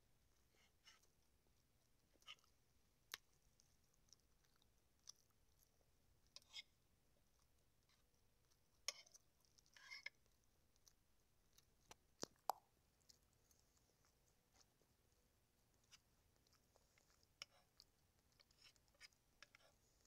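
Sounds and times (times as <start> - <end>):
soft chewing: 0.2 - 20.0.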